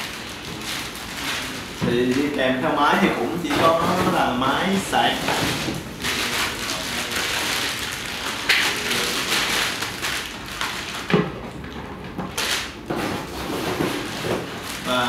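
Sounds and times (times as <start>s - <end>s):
plastic bag crinkling: 0.0s - 11.2s, 12.3s - 15.0s.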